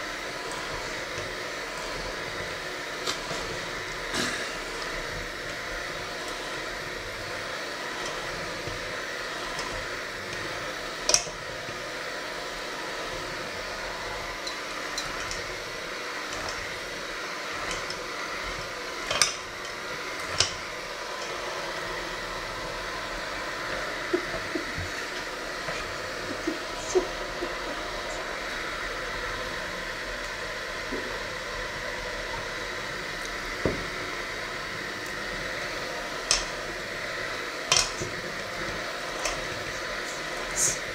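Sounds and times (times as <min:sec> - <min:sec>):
electric hand mixer running: 0:00.0 - 0:40.9.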